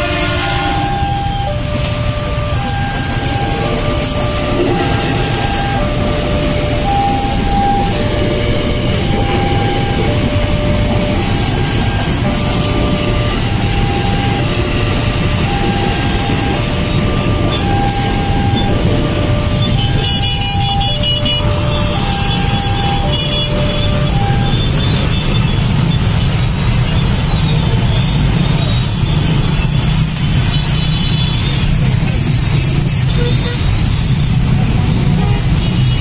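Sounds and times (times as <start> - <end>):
crossing warning bell chiming: 0.0 - 30.5
electric train rumbling past: 0.0 - 30.8.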